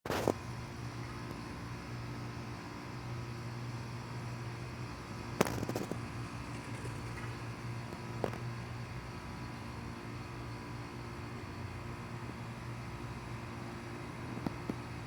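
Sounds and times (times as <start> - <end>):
steady low hum: 0.1 - 15.0.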